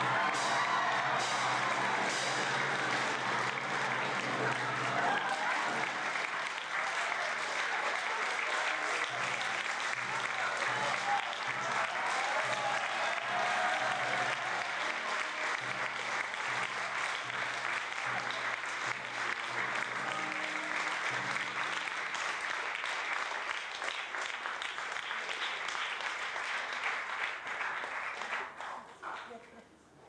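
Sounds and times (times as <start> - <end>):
audience applauding: 0.0 - 29.5.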